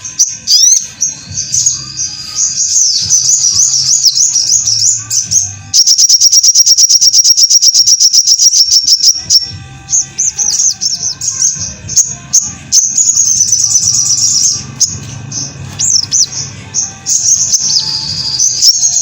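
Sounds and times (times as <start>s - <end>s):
bird fast high trill: 0.0s - 19.0s
bird whistling swooping notes: 0.1s - 9.5s, 10.2s - 19.0s.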